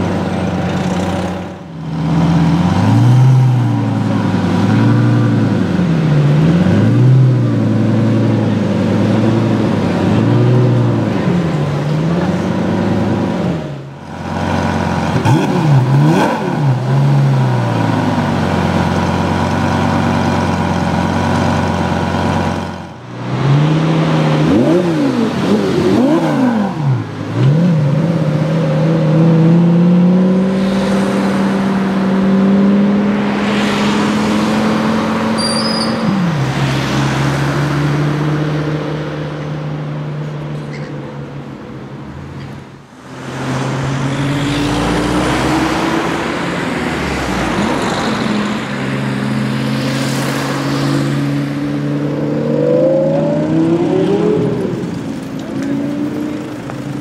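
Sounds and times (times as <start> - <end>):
car accelerating: 0.0 - 40.5, 43.0 - 57.0
car engine idling and revving: 0.0 - 57.0.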